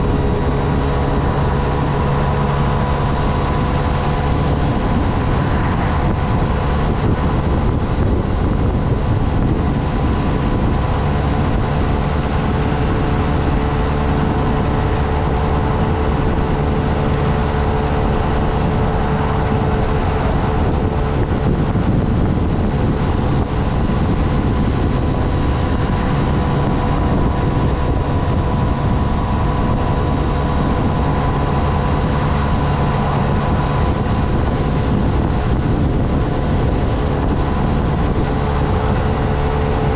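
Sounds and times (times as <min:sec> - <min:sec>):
motorcycle engine cruising: 0:00.0 - 0:39.9
road rumble: 0:00.0 - 0:39.9
wind on microphone: 0:00.0 - 0:39.9.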